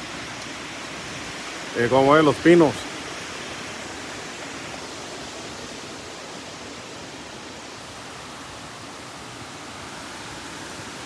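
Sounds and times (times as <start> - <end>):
rain: 0.0 - 11.0
strong wind through pine trees: 0.0 - 11.0.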